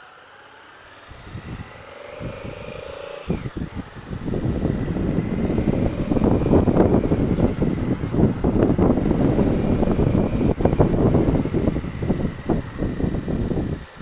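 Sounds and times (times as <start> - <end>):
motorcycle engine accelerating: 0.0 - 14.0
wind buffeting microphone: 1.0 - 14.0.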